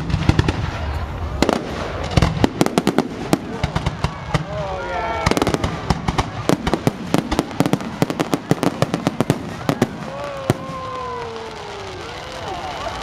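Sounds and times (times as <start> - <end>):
fireworks crackling pops: 0.0 - 13.0.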